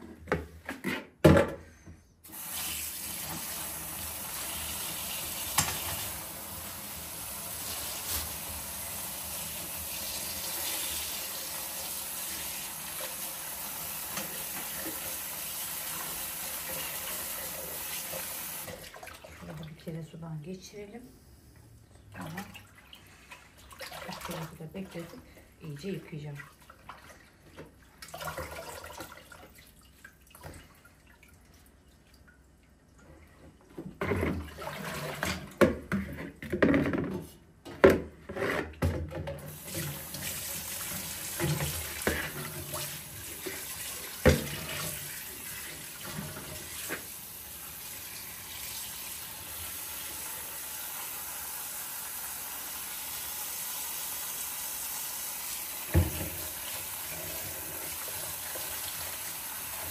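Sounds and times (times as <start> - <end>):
tap water running: 2.2 - 19.9, 22.2 - 37.1, 38.8 - 59.9.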